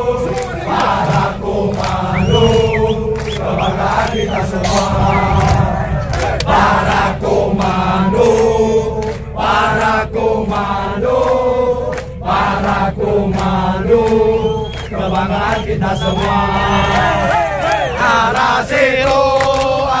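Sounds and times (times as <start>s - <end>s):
group chanting: 0.0s - 20.0s.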